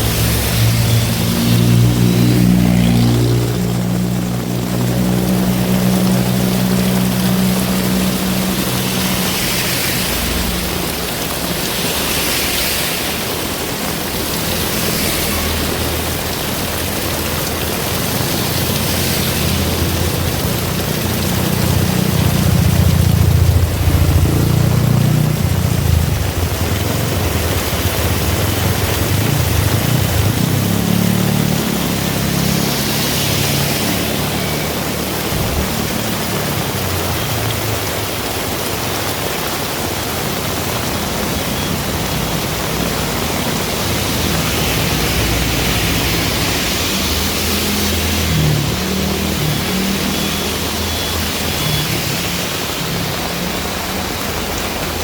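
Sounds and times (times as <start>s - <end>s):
heavy rain falling: 0.0s - 55.0s
road traffic rumble: 0.0s - 55.0s.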